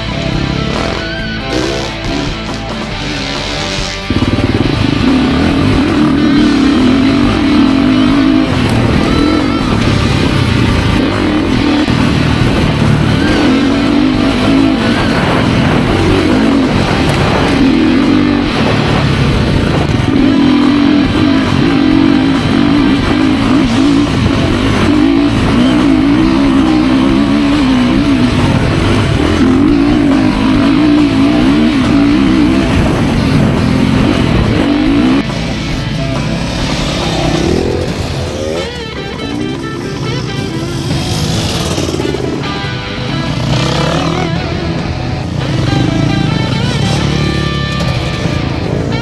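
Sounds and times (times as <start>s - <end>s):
dirt bike engine revving: 0.0s - 49.0s
guitar-driven music: 0.0s - 49.0s.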